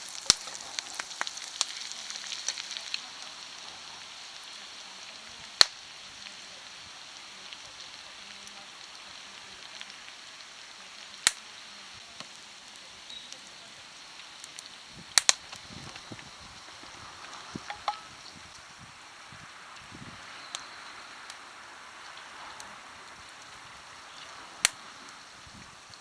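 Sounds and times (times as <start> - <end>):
wood fire cracks: 0.0 - 26.0
wood fire hissing: 0.0 - 26.0.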